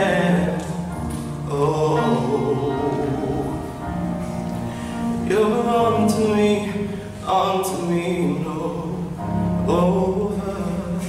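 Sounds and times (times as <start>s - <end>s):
man singing into microphone: 0.0s - 3.9s, 5.2s - 11.0s.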